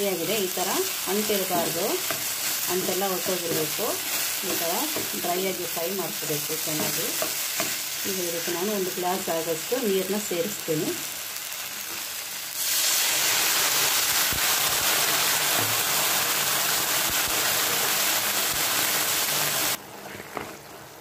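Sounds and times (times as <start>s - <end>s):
water hissing in hot pan: 0.0s - 9.7s, 10.3s - 19.8s
frying sizzle: 0.0s - 21.0s.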